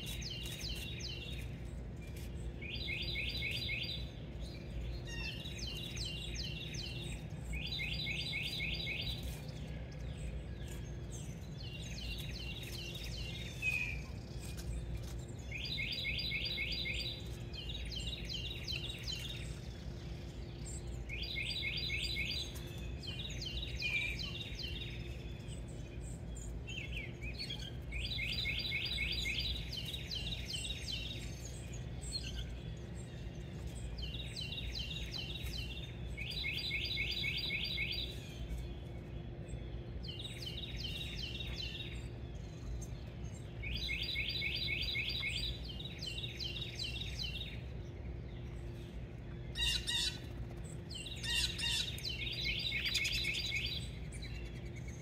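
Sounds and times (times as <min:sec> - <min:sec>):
songbird singing: 0:00.0 - 0:55.0
steady low hum: 0:00.0 - 0:55.0.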